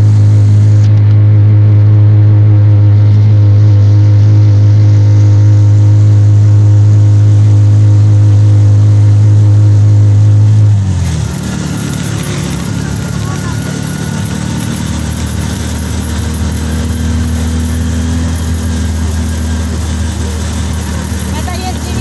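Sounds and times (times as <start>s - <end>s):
auto-rickshaw engine droning: 0.0s - 22.0s.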